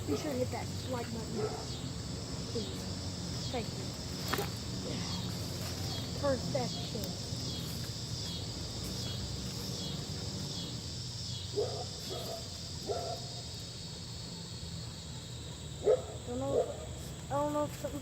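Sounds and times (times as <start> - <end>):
insects trilling chorus: 0.0 - 18.0.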